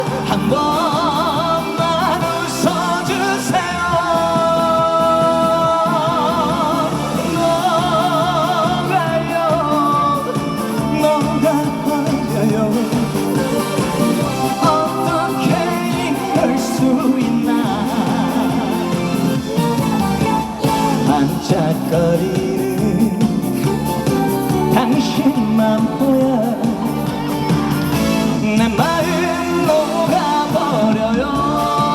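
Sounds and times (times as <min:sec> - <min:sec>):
band backing track: 0:00.0 - 0:31.9
man singing with vibrato: 0:00.0 - 0:31.9.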